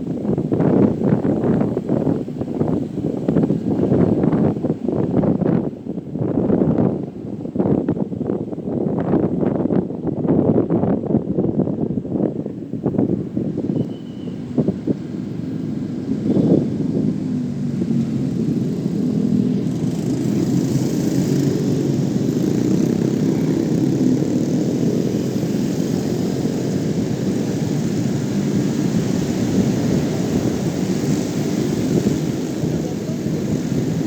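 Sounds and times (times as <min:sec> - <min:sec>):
motorcycle engine drone: 0:00.0 - 0:34.0
wind rumble on microphone: 0:00.0 - 0:34.0.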